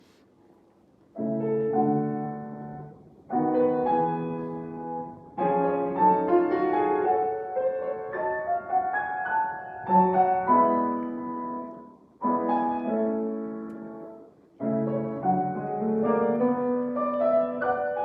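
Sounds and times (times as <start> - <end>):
classical piano music: 1.1 - 18.0.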